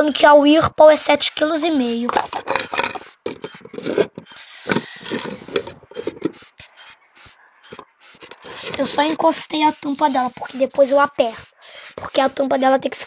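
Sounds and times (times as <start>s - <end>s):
plastic parts rubbing and scraping: 0.0s - 13.0s.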